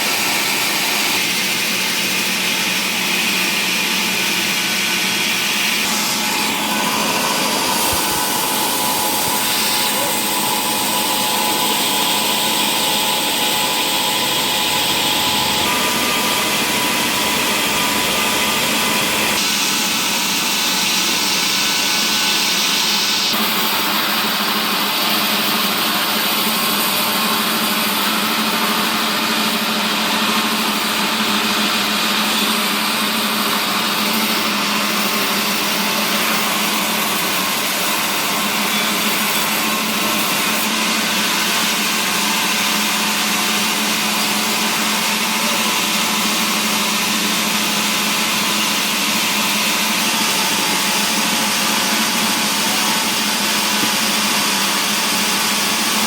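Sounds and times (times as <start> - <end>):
wood-processing machinery running: 0.0 - 56.0.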